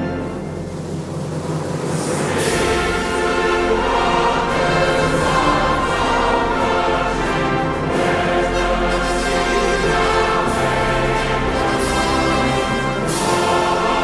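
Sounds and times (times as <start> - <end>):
orchestral music with brass: 0.0 - 14.0.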